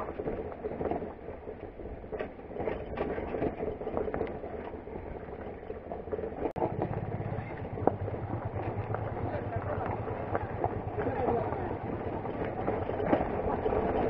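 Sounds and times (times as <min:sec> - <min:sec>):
clicks and rattles of bike: 0:00.0 - 0:14.0
loose stones under tyres: 0:00.0 - 0:14.0
motorcycle engine at low speed: 0:00.0 - 0:14.0.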